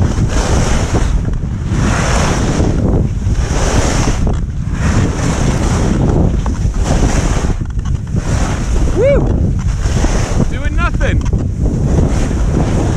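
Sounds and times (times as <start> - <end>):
ski runners scraping snow: 0.0 - 12.9
wind on microphone: 0.0 - 12.9.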